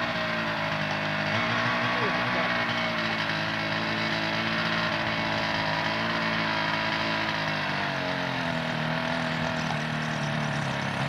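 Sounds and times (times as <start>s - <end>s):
helicopter engine running: 0.0s - 11.0s.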